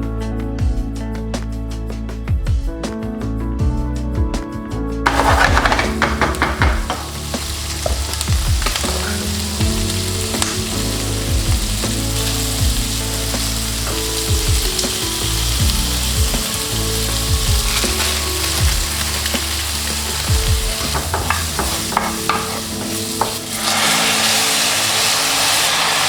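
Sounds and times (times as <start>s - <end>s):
background music: 0.0s - 26.0s
food sizzling in a pan: 5.1s - 26.0s.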